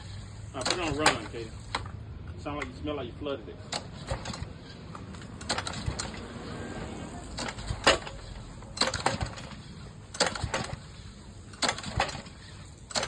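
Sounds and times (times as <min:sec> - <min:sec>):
small engine cranking clacks: 0:00.0 - 0:02.0, 0:03.6 - 0:13.0.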